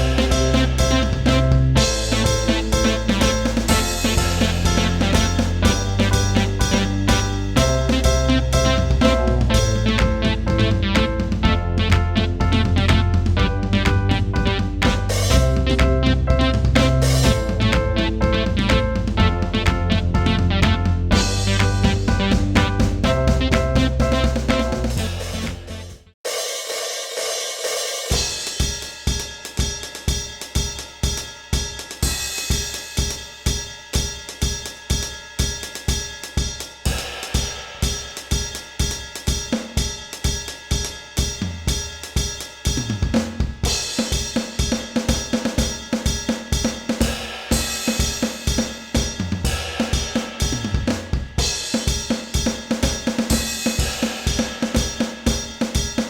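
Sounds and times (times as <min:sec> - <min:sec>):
electronic drum kit beat: 0:00.0 - 0:56.0.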